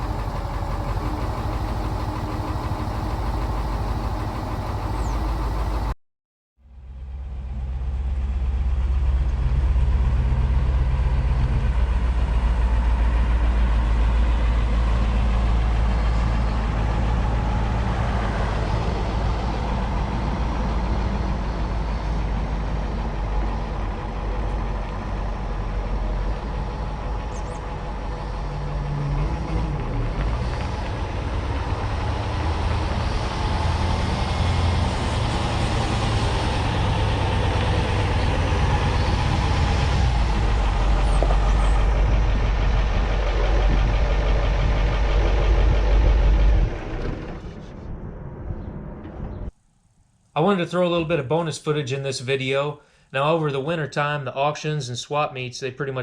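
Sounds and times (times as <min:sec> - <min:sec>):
diesel engine idling: 0:00.0 - 0:06.0, 0:06.9 - 0:48.4.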